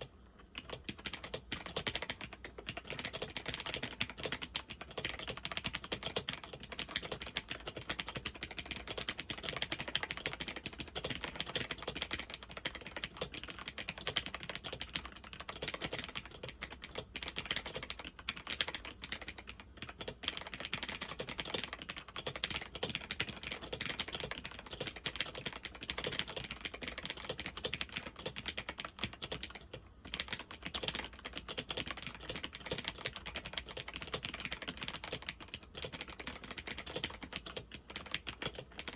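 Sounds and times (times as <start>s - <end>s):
fast typing on laptop keyboard: 0.0s - 38.9s.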